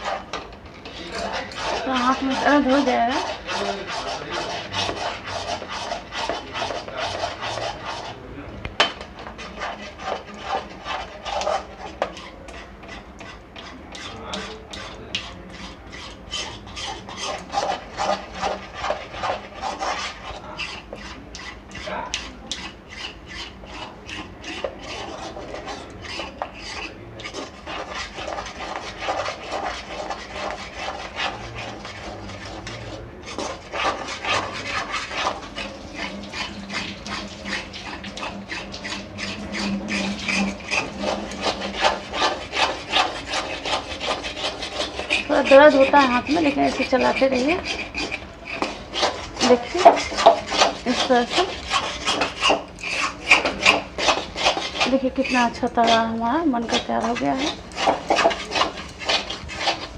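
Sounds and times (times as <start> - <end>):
metal spatula scraping metal pan: 0.0 - 59.9.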